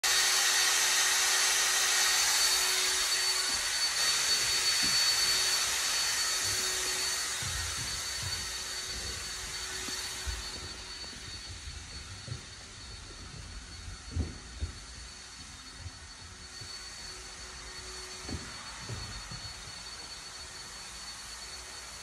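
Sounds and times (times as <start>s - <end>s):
cordless drill whining: 0.1s - 22.0s.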